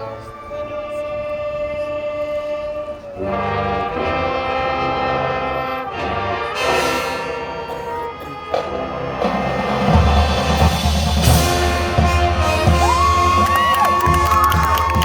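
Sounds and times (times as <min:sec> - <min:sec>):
marching band brass chords: 0:01.6 - 0:15.0.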